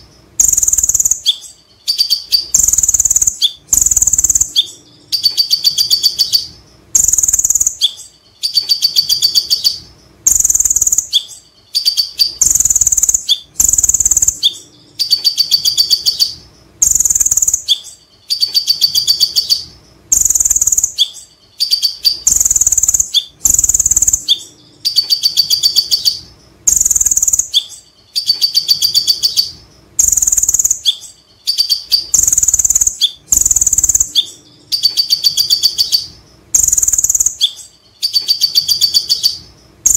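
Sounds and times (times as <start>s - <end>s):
bird singing rapid high notes: 0.4s - 39.9s.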